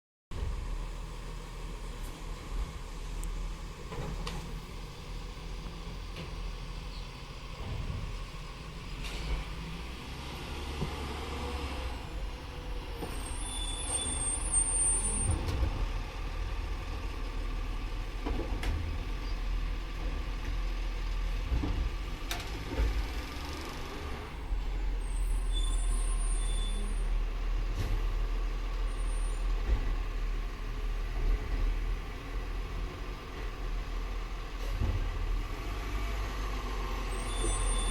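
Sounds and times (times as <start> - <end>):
garbage truck engine rumble: 0.3 - 37.9.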